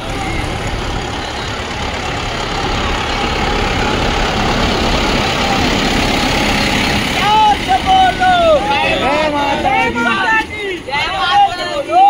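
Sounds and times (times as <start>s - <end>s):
road noise: 0.0s - 12.0s
vehicle engines: 0.0s - 12.0s.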